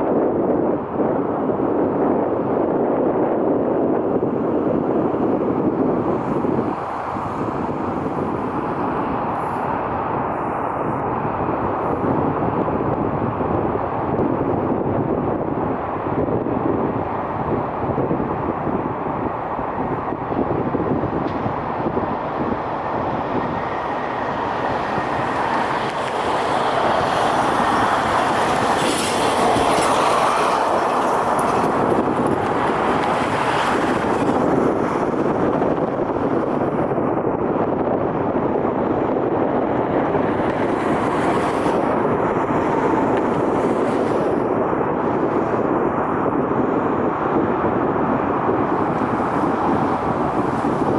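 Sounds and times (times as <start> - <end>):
jet engines rushing: 4.0 - 37.0, 37.6 - 50.9.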